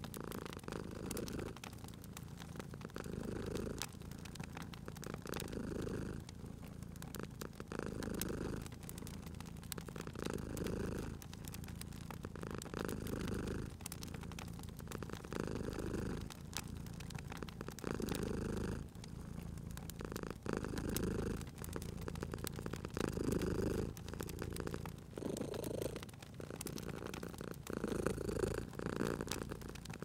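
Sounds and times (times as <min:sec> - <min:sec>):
cat purring: 0:00.0 - 0:30.0
wood fire crackling: 0:00.0 - 0:30.0.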